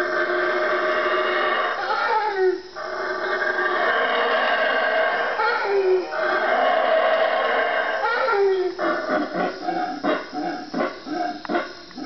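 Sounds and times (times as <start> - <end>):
howler monkeys roaring: 0.0 - 12.0.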